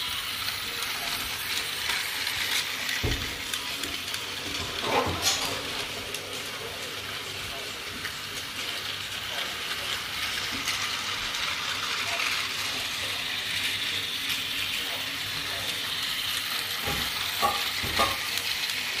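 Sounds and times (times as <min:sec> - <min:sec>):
toy train motor whirring rattle: 0:00.0 - 0:19.0.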